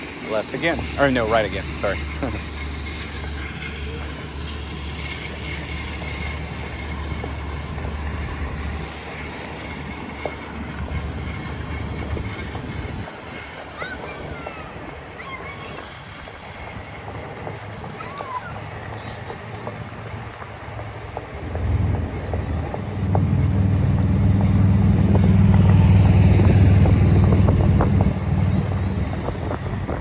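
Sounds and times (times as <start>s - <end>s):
electric boards rolling on concrete: 0.0s - 30.0s.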